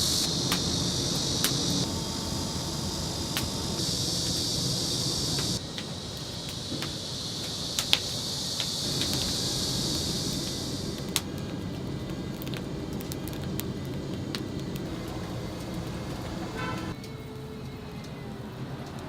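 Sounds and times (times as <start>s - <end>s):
wood fire crackling and popping: 0.0s - 18.2s
chicken sizzling over fire: 0.0s - 19.0s.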